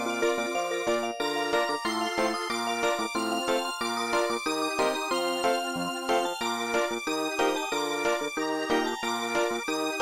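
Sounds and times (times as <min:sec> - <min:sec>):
polyphonic ringtone melody: 0:00.0 - 0:10.0.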